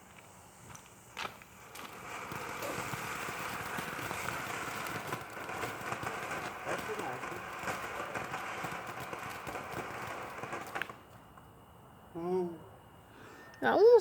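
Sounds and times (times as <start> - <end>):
firework hissing and crackling: 0.0 - 11.5.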